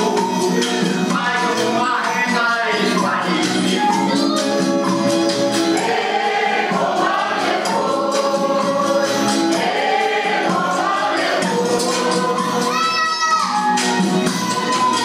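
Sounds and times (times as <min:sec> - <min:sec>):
group singing: 0:00.0 - 0:15.0
jingling hand percussion: 0:00.0 - 0:15.0.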